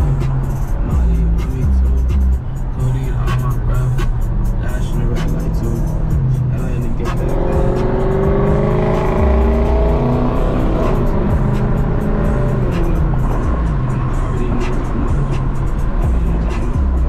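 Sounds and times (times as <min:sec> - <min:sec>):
car exhaust accelerating: 0:00.0 - 0:17.0
music: 0:00.0 - 0:17.0.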